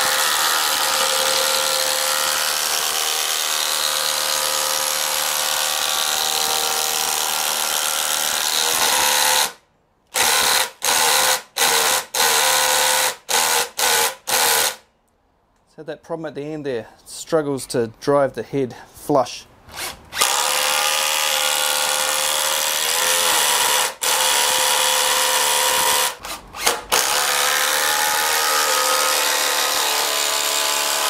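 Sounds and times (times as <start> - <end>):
impact driver driving screw into wood: 0.0 - 14.8, 19.7 - 31.0.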